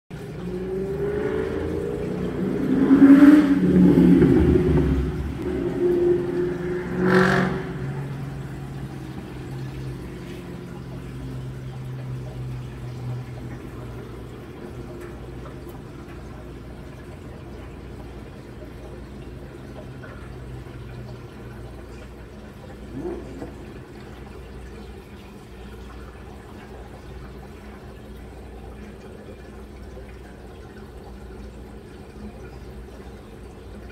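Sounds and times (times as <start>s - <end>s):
aquarium filter humming: 0.1s - 33.9s.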